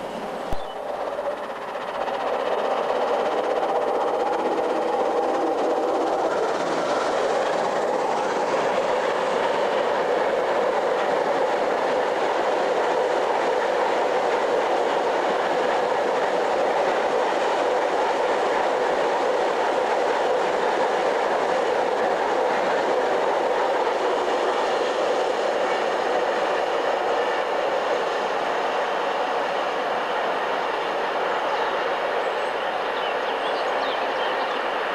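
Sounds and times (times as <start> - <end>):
train wheels rolling on rails: 0.0 - 34.9.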